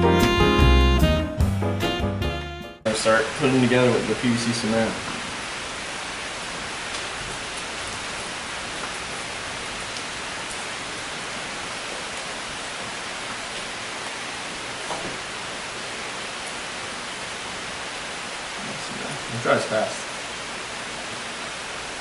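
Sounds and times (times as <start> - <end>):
steady background hiss: 2.9 - 22.0.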